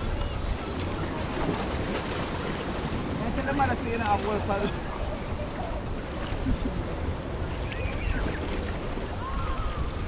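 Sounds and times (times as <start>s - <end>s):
sea surf: 0.0s - 10.0s
wind buffeting microphone: 0.0s - 10.0s.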